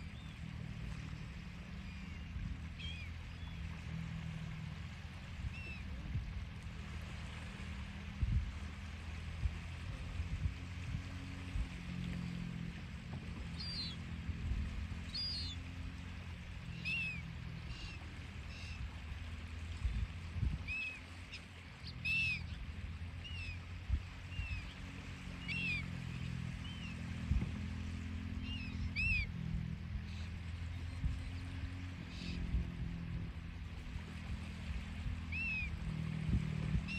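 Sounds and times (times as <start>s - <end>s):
gulls calling: 0.0s - 6.7s, 7.5s - 36.9s.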